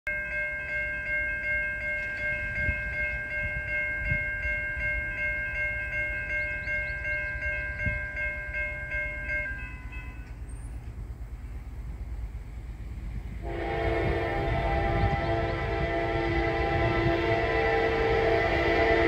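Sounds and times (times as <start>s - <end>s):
railroad crossing bell ringing: 0.1s - 19.0s.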